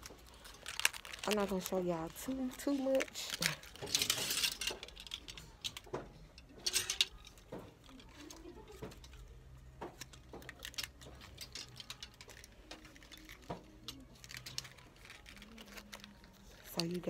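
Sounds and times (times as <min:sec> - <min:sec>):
clothes hangers clicking and rustling: 0:00.0 - 0:17.0
faint low shop hum: 0:00.0 - 0:17.0.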